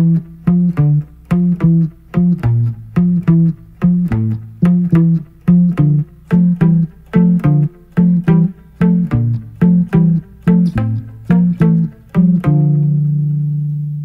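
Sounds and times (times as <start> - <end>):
bass and guitar riff: 0.0 - 14.0
instrumental rock music: 0.0 - 14.0.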